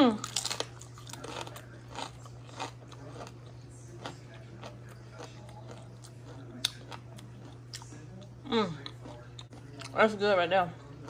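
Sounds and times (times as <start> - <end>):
steady low hum: 0.0 - 11.0
person chewing food: 0.2 - 10.0.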